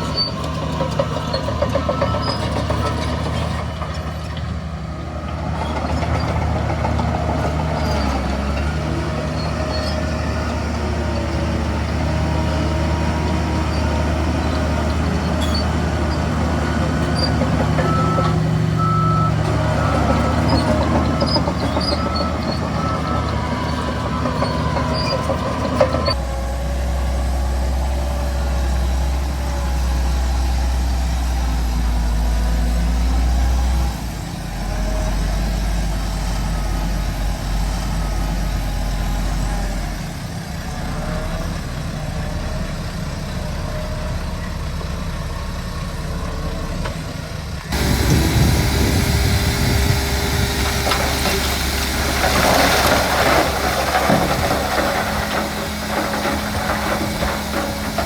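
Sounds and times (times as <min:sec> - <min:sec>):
heavy diesel machinery engines: 0:00.0 - 0:58.0.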